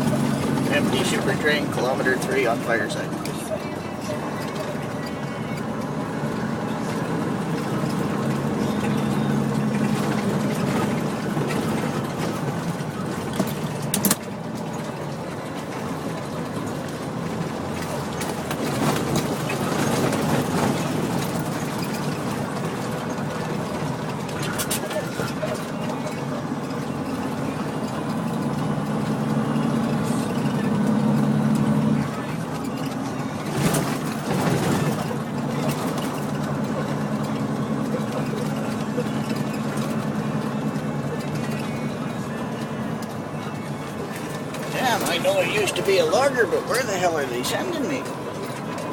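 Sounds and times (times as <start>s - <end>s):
road rumble on gravel: 0.0s - 48.9s
trailer rattles and knocks: 0.0s - 48.9s
truck diesel engine running: 0.0s - 48.9s.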